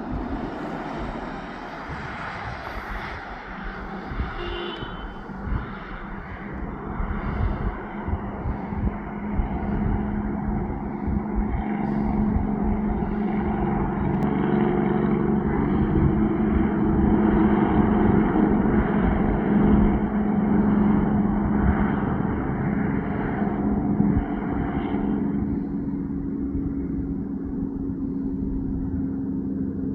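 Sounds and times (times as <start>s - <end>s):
truck diesel engine droning: 0.0s - 29.9s.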